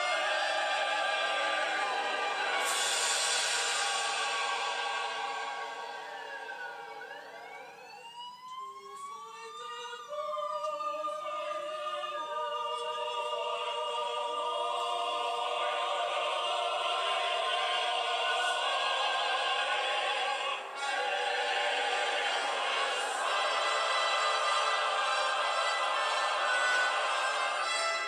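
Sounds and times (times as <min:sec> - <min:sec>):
opera chorus and orchestra: 0:00.0 - 0:08.1, 0:08.8 - 0:28.0
siren wailing: 0:00.0 - 0:28.0.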